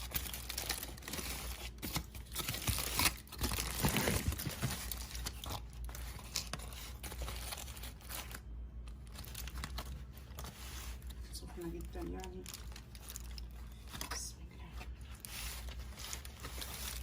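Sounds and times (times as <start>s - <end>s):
aluminium foil crinkling and tearing: 0.0s - 14.3s, 14.9s - 17.0s.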